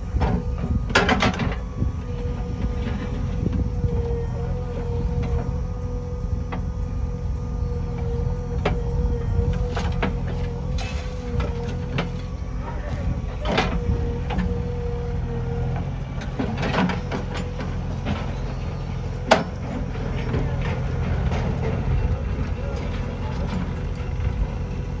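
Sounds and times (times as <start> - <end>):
diesel engine running: 0.0 - 25.0
steady whine: 0.0 - 25.0.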